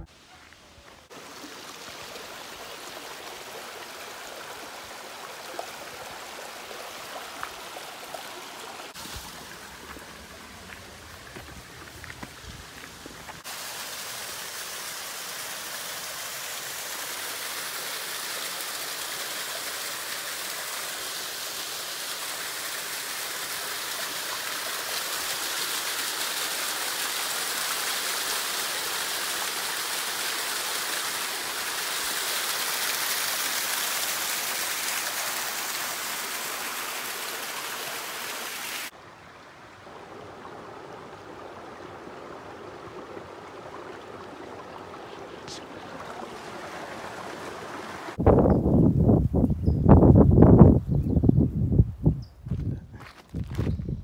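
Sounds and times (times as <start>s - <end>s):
stream running over stones: 0.0s - 48.2s
waterfall splashing over rocks: 0.4s - 48.2s.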